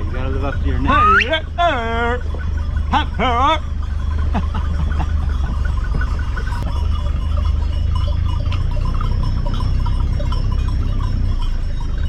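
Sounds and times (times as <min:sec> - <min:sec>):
low rumble: 0:00.0 - 0:12.0
sheep bells clinking: 0:00.0 - 0:12.0.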